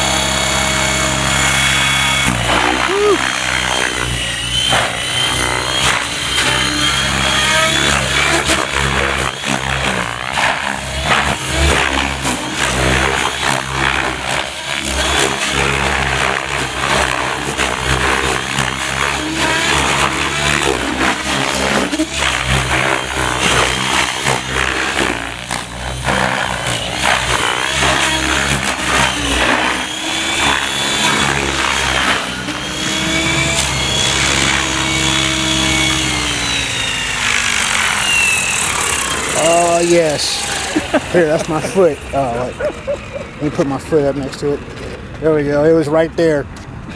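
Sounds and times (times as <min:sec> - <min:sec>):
model helicopter rotor whirring: 0:00.0 - 0:46.8.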